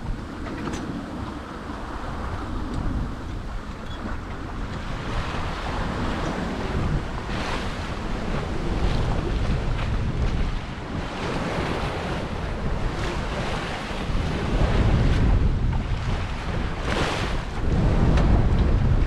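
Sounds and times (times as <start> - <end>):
water rushing along a hull: 0.0 - 19.0
wind buffeting microphone: 0.0 - 19.0.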